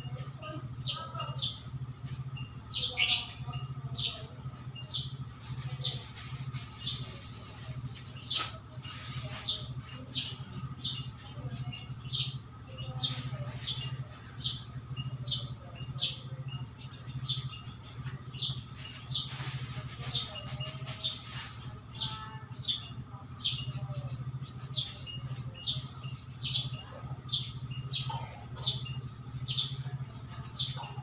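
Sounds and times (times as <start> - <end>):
steady low hum: 0.0 - 31.0
small bird chirping: 0.8 - 31.0.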